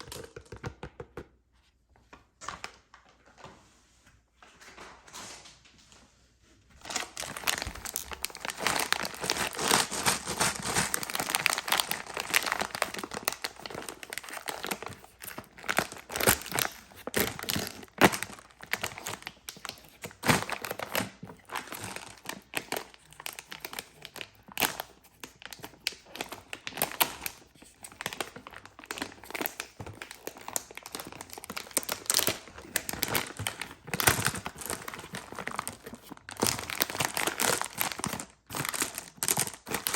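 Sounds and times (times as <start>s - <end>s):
wrappers crinkling and tearing: 6.8s - 39.9s.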